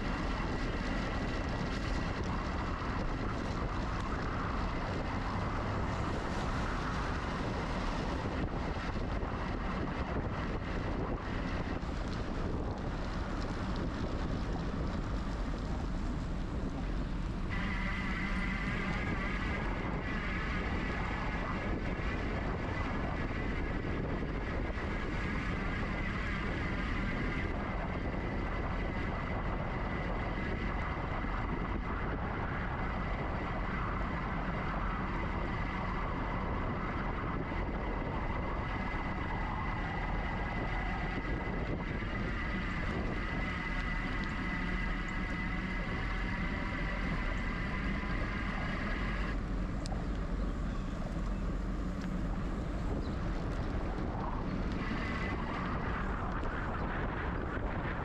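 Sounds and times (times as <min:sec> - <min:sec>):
electric bike rolling: 0:00.0 - 0:58.0
thin high whine: 0:00.0 - 0:58.0
wind rush: 0:00.0 - 0:58.0.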